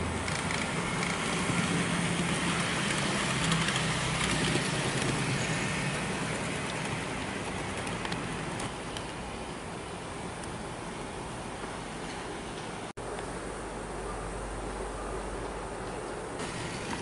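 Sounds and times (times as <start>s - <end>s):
wheels rattling on rails: 0.0s - 13.2s, 14.7s - 17.0s.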